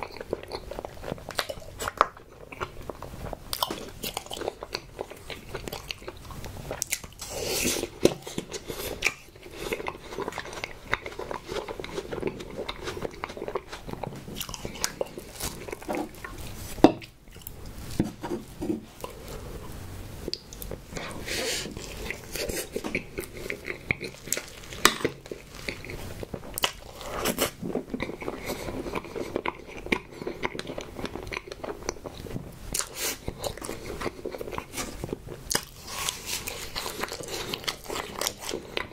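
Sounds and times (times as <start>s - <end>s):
person chewing sweets: 0.0s - 38.9s.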